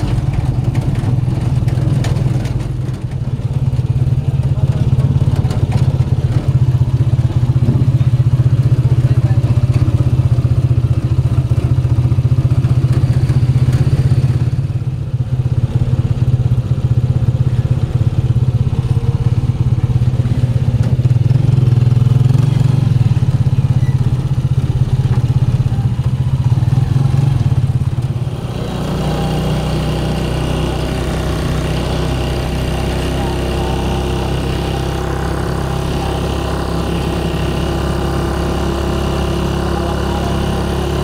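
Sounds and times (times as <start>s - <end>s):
small motorcycle engine running: 0.0s - 41.0s.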